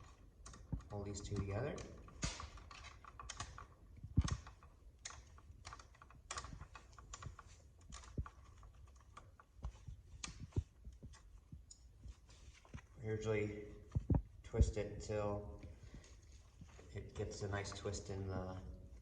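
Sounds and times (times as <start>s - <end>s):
wires clicking and scraping: 0.0s - 19.0s.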